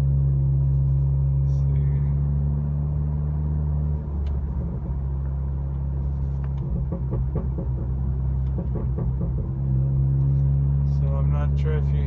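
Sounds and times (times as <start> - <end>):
car exhaust burbling: 0.0 - 12.0
exhaust crackles: 0.0 - 12.0.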